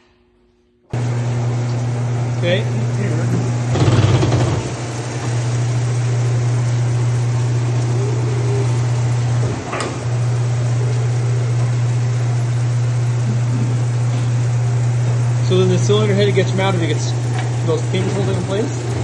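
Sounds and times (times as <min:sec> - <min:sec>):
grinder electric hum: 0:00.0 - 0:19.0.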